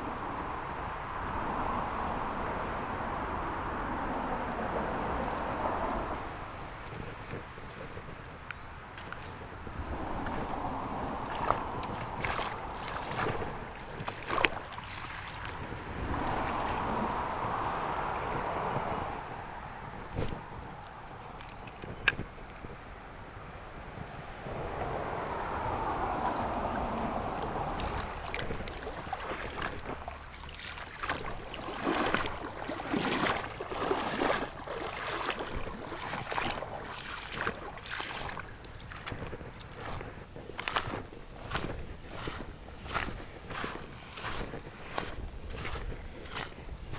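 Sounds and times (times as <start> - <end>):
river water sloshing: 0.0 - 46.9.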